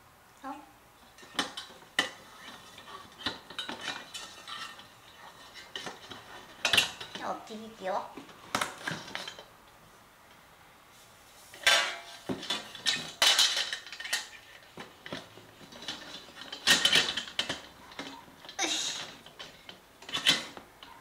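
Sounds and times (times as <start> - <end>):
lamp shades clattering: 1.0 - 7.4, 8.2 - 9.6, 11.5 - 21.0.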